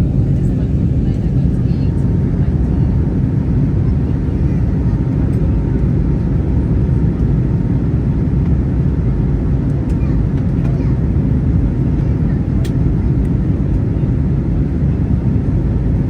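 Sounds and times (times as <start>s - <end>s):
aircraft engines rumbling in cabin: 0.0s - 16.0s.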